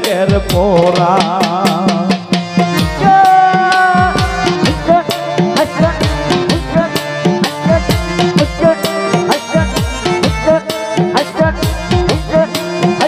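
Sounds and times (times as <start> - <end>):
hand drums playing fast rhythm: 0.0 - 13.0
held melody notes: 2.3 - 13.0.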